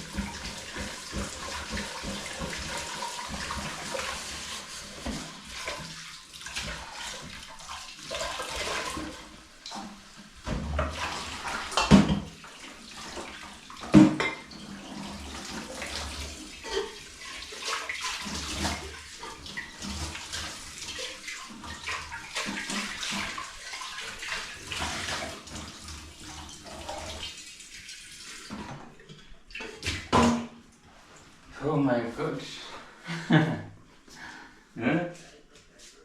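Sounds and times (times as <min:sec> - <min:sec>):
tap water splashing into sink: 0:00.0 - 0:30.6.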